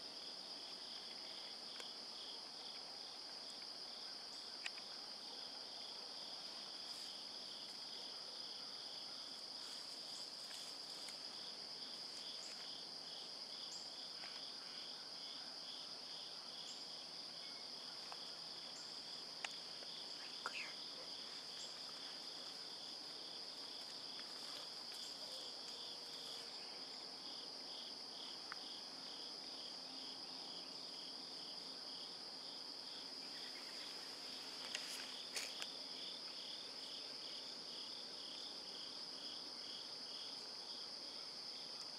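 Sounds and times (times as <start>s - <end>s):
high insect trill: 0.0s - 41.9s
low pulsing insect chirp: 0.0s - 41.9s.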